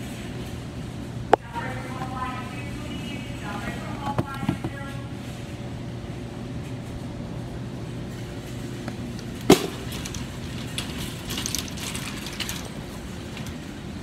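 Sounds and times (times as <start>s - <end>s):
shopping cart rattling: 0.0s - 14.0s
steady low hum: 0.0s - 14.0s.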